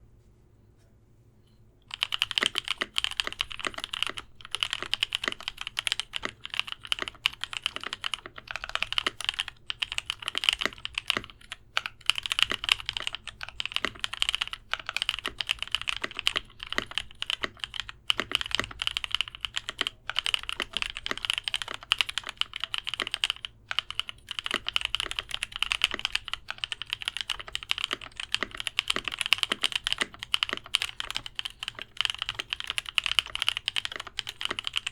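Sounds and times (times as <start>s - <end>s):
mechanical keyboard typing: 1.9s - 34.9s.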